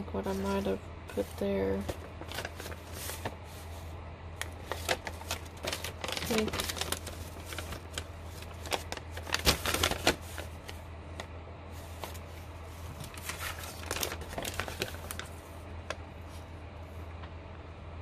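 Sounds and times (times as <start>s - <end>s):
low steady hum: 0.0s - 18.0s
paper sheets rustling and crackling: 0.1s - 16.5s.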